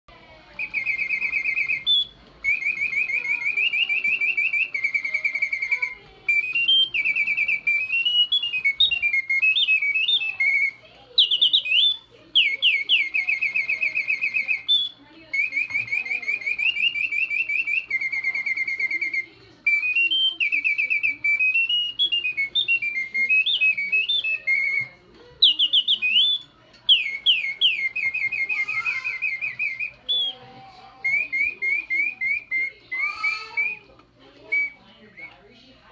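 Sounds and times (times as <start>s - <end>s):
mechanical bird whistle warbling: 0.6s - 33.9s, 34.5s - 35.4s.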